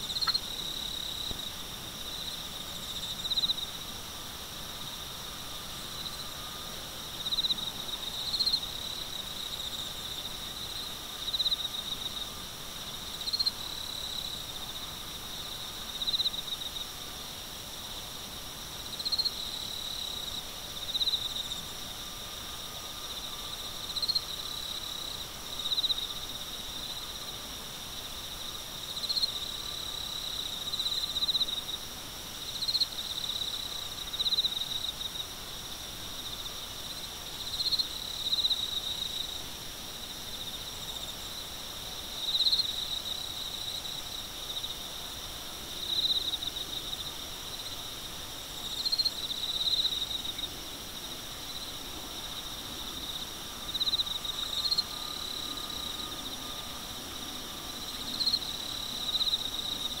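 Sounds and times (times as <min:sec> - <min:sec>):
insects trilling: 0:00.0 - 1:00.0.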